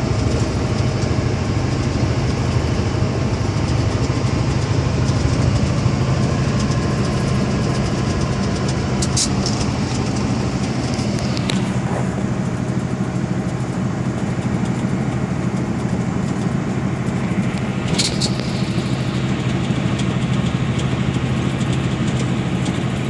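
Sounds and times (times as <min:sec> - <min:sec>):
road and wind noise: 0:00.0 - 0:23.0
truck diesel engine droning: 0:00.0 - 0:23.0.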